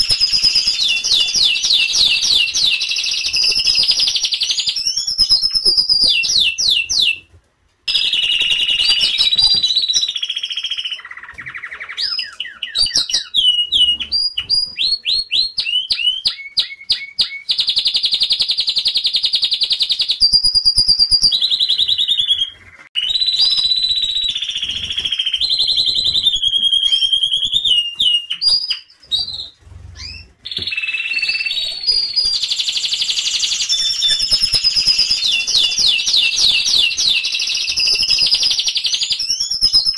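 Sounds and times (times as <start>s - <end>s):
canary singing trills: 0.0s - 7.2s, 7.9s - 39.9s.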